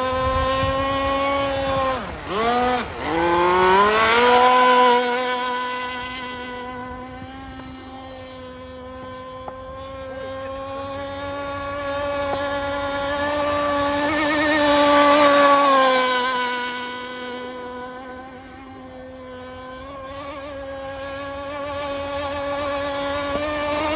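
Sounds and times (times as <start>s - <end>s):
rc boat engine running: 0.0s - 23.9s.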